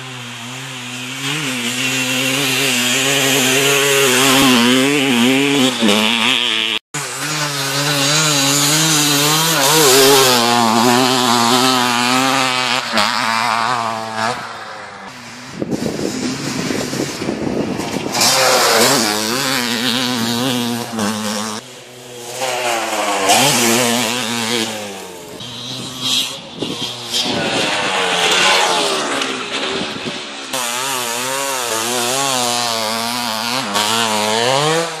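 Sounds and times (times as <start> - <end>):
motocross engine revving: 0.0 - 35.0.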